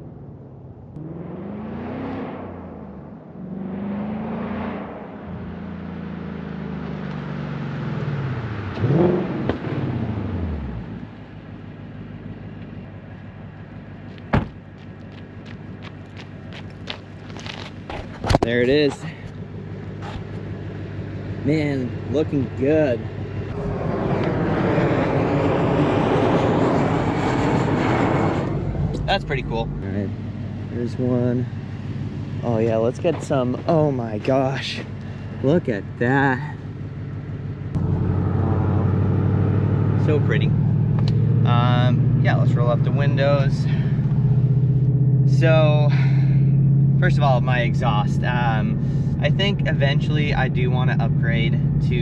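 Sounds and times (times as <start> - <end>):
car exhaust accelerating: 0.0 - 52.0
road and wind noise: 0.0 - 52.0.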